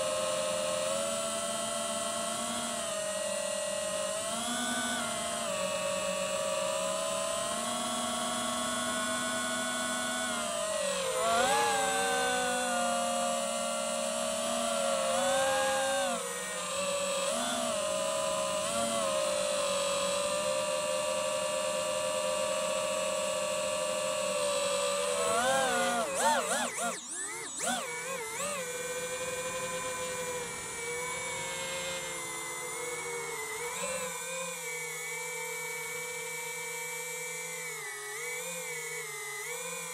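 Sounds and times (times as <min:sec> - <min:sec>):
drone propellers whining: 0:01.9 - 0:39.9.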